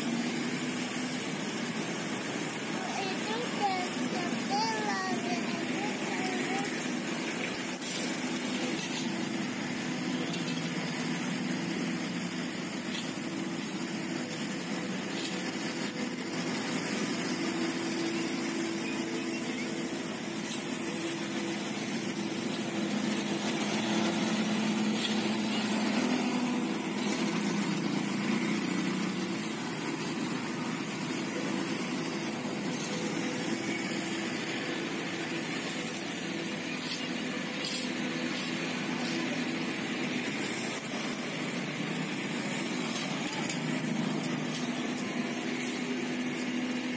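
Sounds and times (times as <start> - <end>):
paving machine engine running: 0.0 - 46.9.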